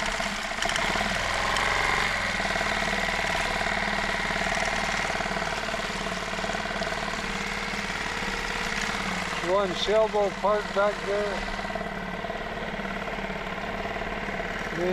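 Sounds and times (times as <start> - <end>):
outboard motor humming: 0.0 - 14.9.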